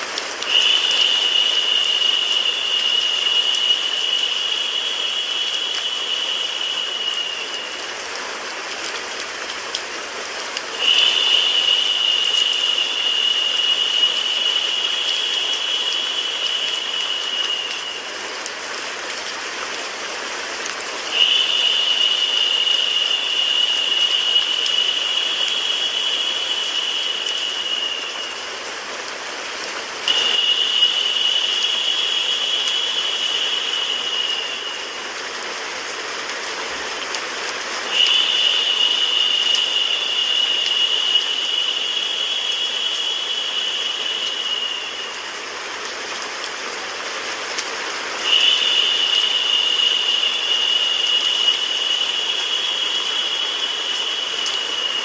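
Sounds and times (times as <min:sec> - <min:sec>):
steady rain: 0:00.0 - 0:55.0
white noise hiss: 0:00.0 - 0:55.0.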